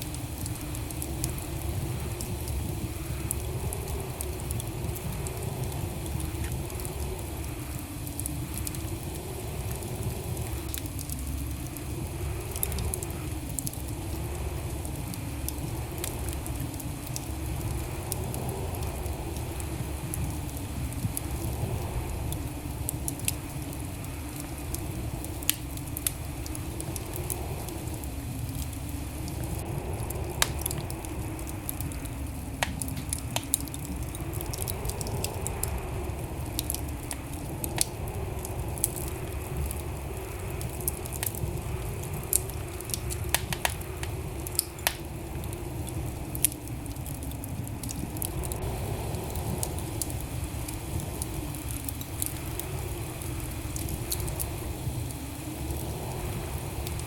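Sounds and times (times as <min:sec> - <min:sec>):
fire low rumble: 0:00.0 - 0:57.0
wood fire crackling and popping: 0:00.0 - 0:57.0.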